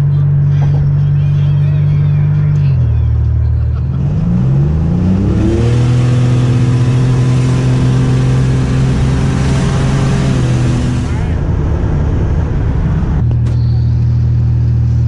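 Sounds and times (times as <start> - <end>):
car engine accelerating: 0.0 - 15.0
road and wind noise: 0.0 - 15.0.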